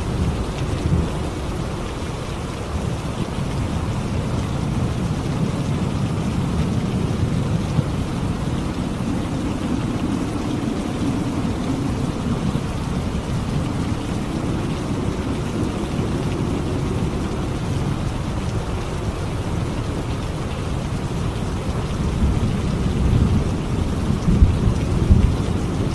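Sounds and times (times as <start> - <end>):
low rumble of thunder: 0.0 - 25.9
steady rain: 0.0 - 25.9.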